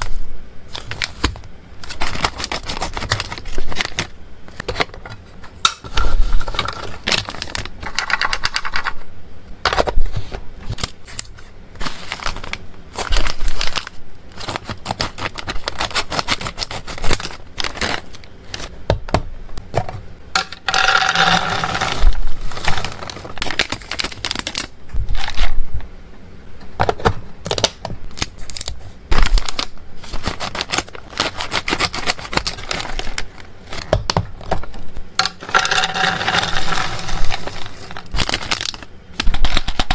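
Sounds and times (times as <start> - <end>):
foil bag crinkling: 0.0 - 4.9, 5.9 - 8.9, 9.8 - 18.8, 20.7 - 25.6, 27.6 - 34.0, 35.2 - 39.9
plastic scraping: 0.7 - 9.0, 9.7 - 25.6, 26.8 - 39.9.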